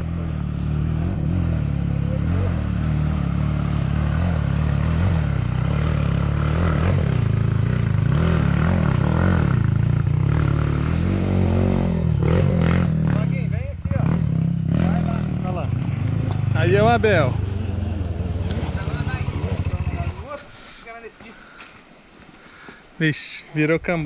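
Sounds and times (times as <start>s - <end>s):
dirt bike engine revving: 0.0s - 20.5s.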